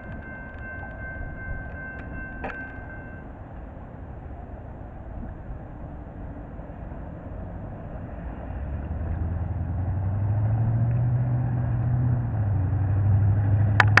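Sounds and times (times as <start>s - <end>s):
low steady engine drone: 0.0s - 14.0s.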